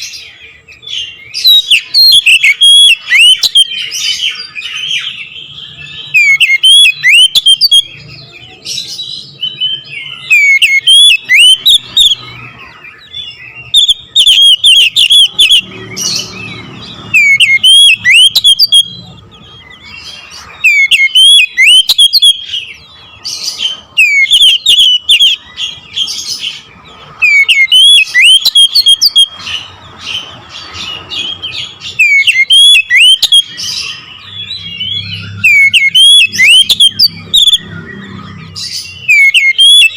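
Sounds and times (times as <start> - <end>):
magpie-robin chirps and whistles: 0.0 - 39.9.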